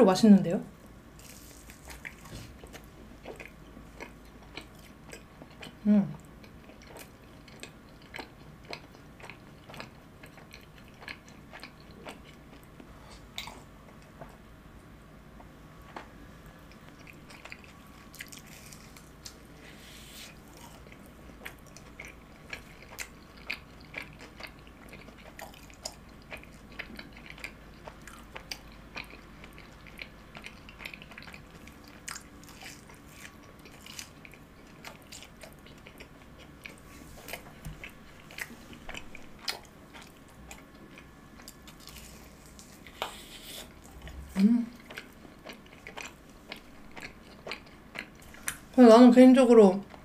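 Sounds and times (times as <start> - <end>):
person chewing crunchy food: 1.2 - 14.4, 15.8 - 48.7.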